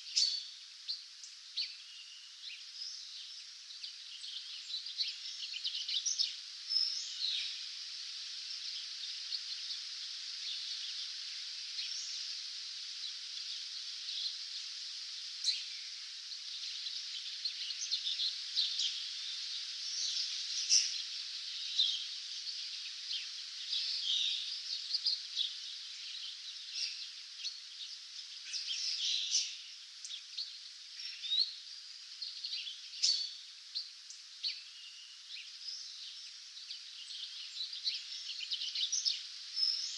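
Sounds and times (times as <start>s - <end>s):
high-pitched hiss: 0.0s - 39.9s
songbirds chirping and trilling: 0.0s - 39.9s.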